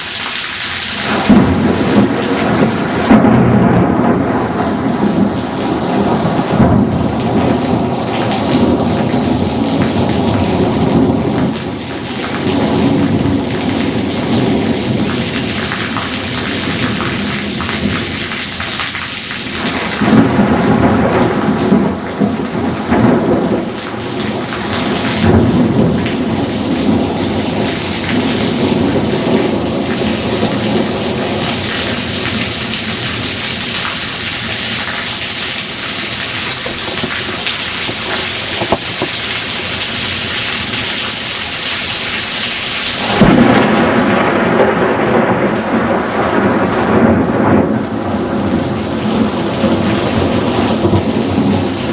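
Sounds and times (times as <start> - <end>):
heavy rain downpour: 0.0 - 51.9
thunder rumbling: 0.9 - 18.3, 19.6 - 41.2, 43.0 - 51.9.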